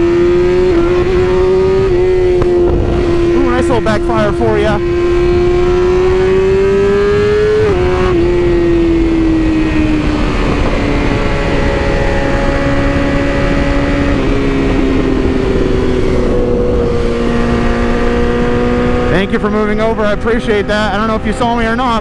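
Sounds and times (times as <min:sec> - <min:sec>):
motorcycle engine at speed: 0:00.0 - 0:22.0
wind noise: 0:00.0 - 0:22.0.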